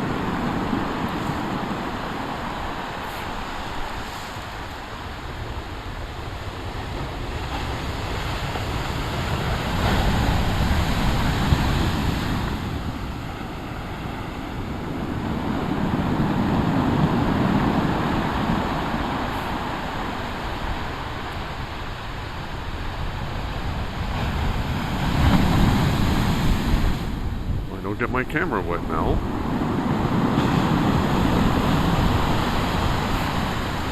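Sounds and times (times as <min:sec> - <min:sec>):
waves breaking on shore: 0:00.0 - 0:33.9
wind buffeting microphone: 0:00.0 - 0:33.9.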